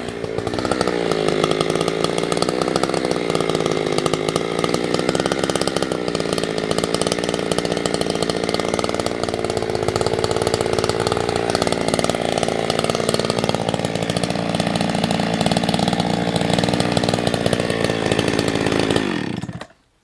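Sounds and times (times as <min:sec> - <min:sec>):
chainsaw running: 0:00.0 - 0:19.9.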